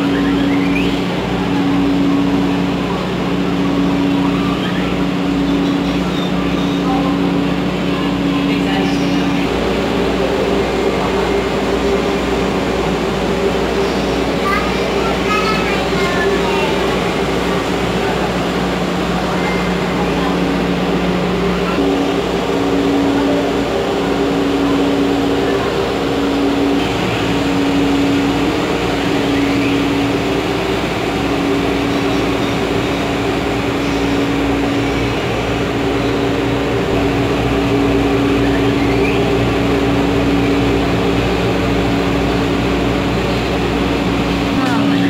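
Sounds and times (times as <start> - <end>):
low machinery tones: 0.0 - 45.0
train car hum and rumble: 0.0 - 45.0.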